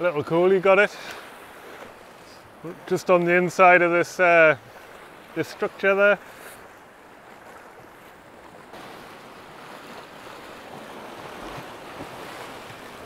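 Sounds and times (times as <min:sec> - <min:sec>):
surf washing against rocks: 0:00.0 - 0:13.0.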